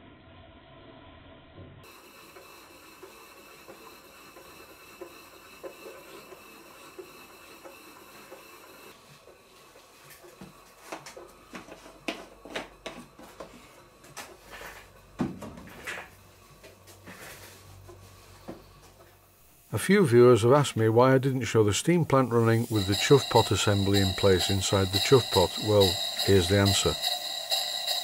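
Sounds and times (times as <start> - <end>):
steam engine hissing: 1.8 - 12.5, 16.2 - 28.0.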